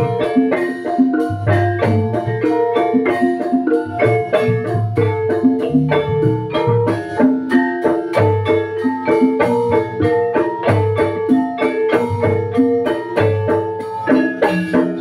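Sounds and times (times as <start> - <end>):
gamelan metallophones and gong-chimes: 0.0 - 15.0.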